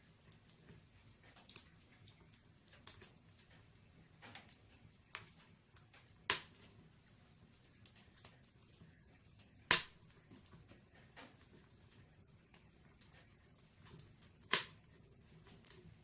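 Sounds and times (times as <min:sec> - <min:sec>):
burning logs popping: 0:00.0 - 0:16.0
fire crackling: 0:00.0 - 0:16.0.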